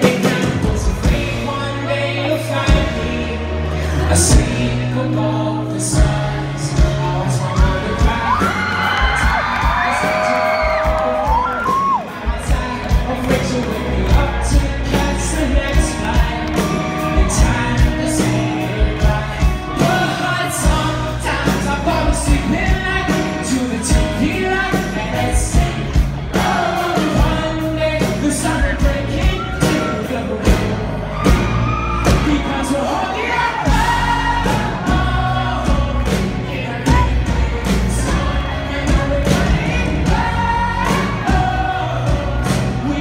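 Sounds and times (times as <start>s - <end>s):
steady drum beat: 0.0s - 3.4s, 5.8s - 43.0s
person singing: 0.0s - 31.4s, 32.0s - 43.0s
live pop-rock band playing: 0.0s - 43.0s.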